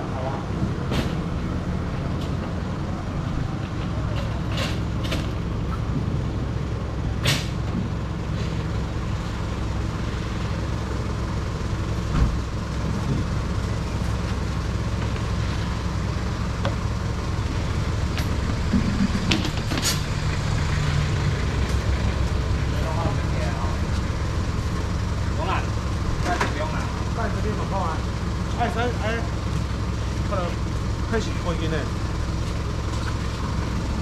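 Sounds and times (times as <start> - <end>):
truck engine idling: 0.0 - 34.0.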